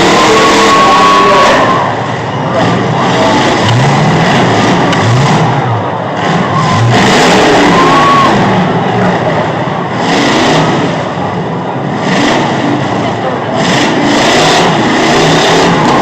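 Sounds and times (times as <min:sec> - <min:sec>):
truck engines revving hard: 0:00.0 - 0:16.0.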